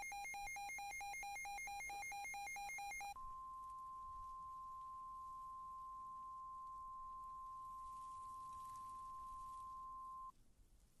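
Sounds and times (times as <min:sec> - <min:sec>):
steady high pure alarm tone: 0:00.0 - 0:10.3.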